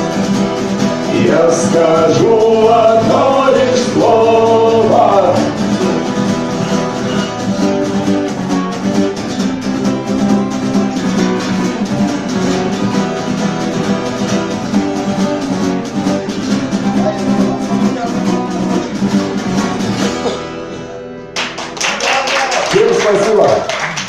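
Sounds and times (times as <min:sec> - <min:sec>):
acoustic guitar strumming: 0:00.0 - 0:21.8.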